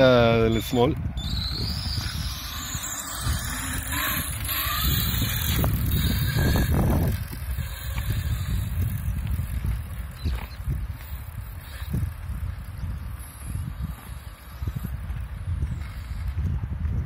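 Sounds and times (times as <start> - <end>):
electric motor whine: 0.5 - 16.8.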